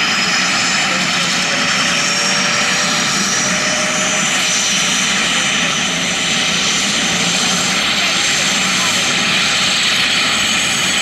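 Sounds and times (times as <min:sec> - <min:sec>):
helicopter turbine whine: 0:00.0 - 0:11.0.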